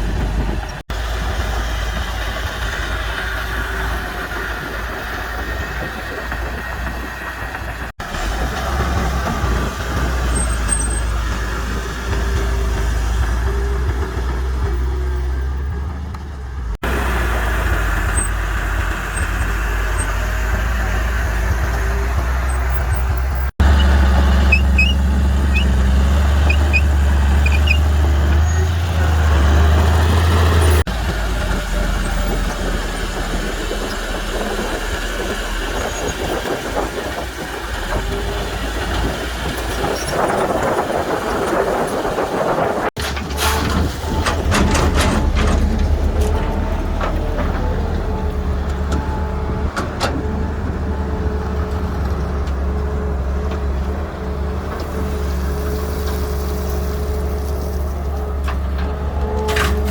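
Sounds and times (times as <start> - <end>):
heavy machinery diesel engine rumble: 0.0 - 59.9.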